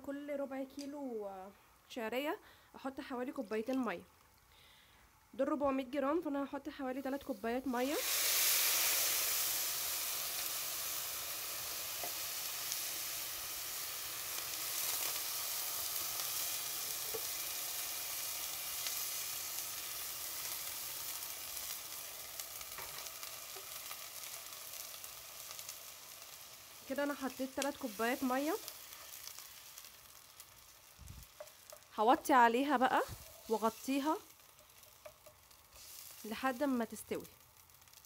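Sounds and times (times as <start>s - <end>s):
water sizzling in hot pan: 6.8s - 38.0s.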